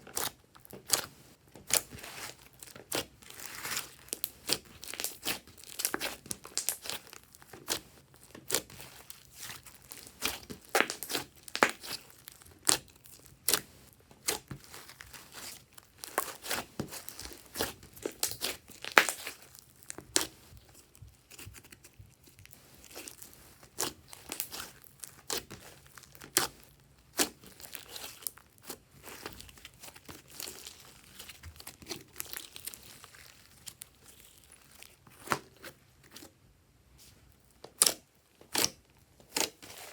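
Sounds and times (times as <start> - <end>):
slime squished by hand: 0.1 - 36.2.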